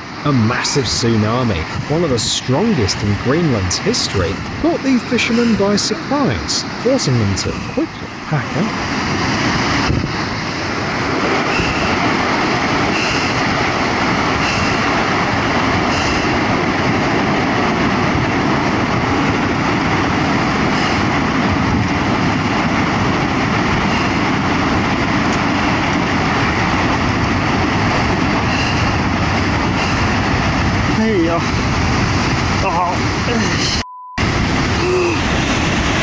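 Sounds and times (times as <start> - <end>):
seawater rushing roar: 0.0 - 33.6, 34.2 - 36.0.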